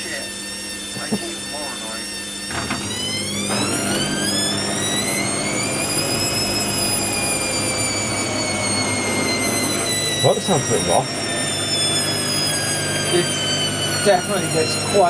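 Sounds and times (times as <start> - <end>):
washer drum motor whining: 0.0 - 15.0.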